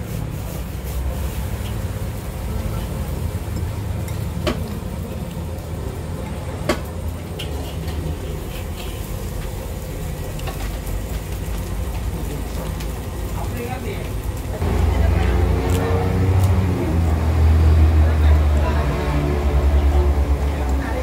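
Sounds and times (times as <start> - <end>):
low rumble of street traffic: 0.0 - 21.0.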